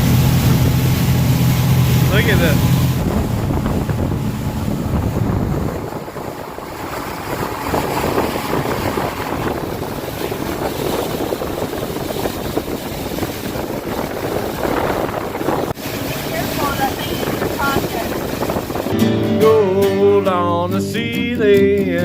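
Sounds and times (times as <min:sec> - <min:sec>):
low motor hum: 0:00.0 - 0:19.0
wind buffeting microphone: 0:00.0 - 0:19.2
water rushing past boat hull: 0:00.0 - 0:22.0.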